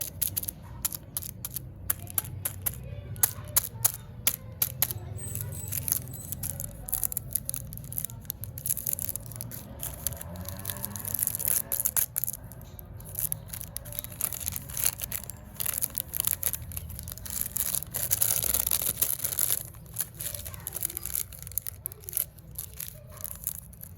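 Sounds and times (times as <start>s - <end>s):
candy wrapper crinkling: 0.0s - 23.9s.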